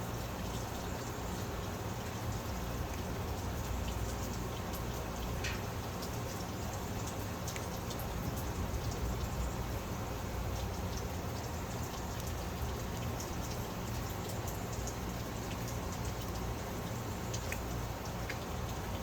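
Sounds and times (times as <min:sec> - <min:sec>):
faint light ticks: 0:02.0 - 0:09.3, 0:10.6 - 0:19.0.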